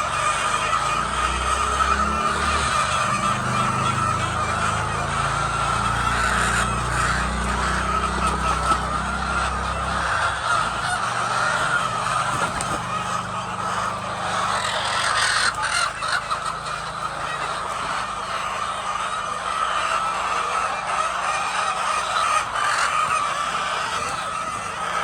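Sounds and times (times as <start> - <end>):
flock of chickens calling: 0.0 - 25.0.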